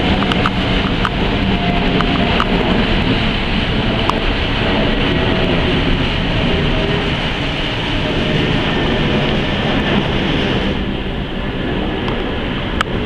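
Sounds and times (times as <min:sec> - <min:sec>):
jet airliner engine rushing: 0:00.0 - 0:13.0.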